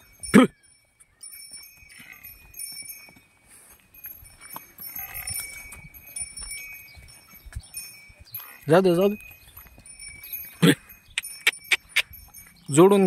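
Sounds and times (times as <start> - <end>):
hooves walking on dirt road: 0.0 - 13.0.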